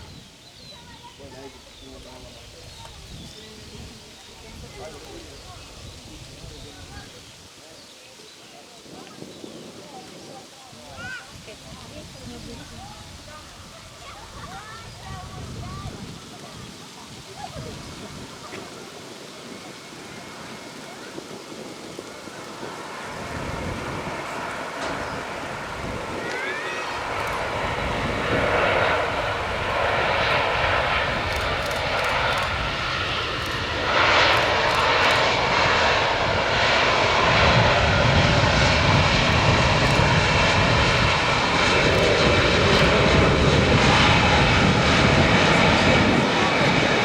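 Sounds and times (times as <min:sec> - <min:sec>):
airplane engine noise: 0:00.0 - 0:07.6, 0:08.8 - 0:47.0.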